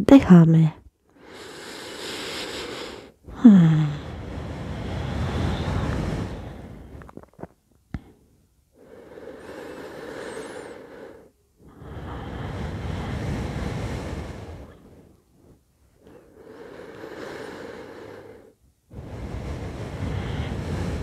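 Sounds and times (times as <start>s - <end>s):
woman breathing slowly: 1.1s - 7.2s, 8.0s - 21.0s.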